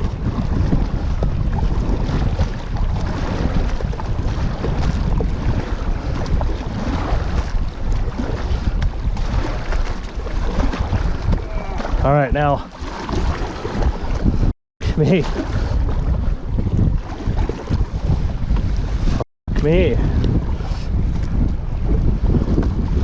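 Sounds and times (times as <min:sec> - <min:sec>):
waves splashing against canoe: 0:00.0 - 0:23.0
wind buffeting microphone: 0:00.0 - 0:23.0.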